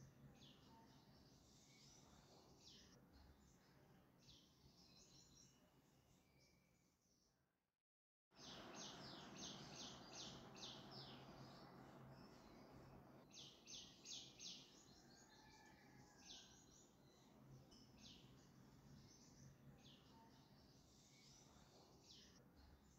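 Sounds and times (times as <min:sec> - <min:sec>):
faint bird chirping: 0:00.0 - 0:07.4, 0:08.4 - 0:22.9.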